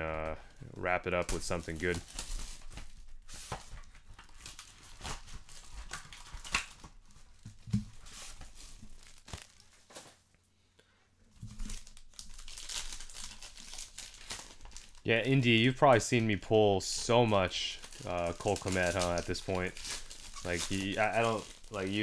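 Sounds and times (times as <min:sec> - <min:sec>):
card packaging crinkling and tearing: 0:01.1 - 0:10.2, 0:11.4 - 0:22.0.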